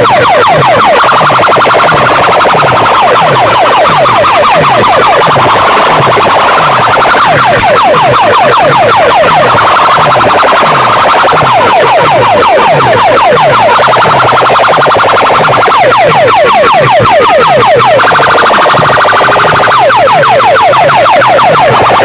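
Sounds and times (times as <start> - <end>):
siren-like effect over loudspeakers: 0.0 - 22.0.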